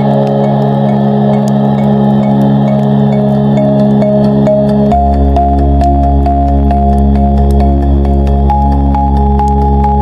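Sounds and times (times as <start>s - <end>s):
low drone chord: 0.0s - 10.0s.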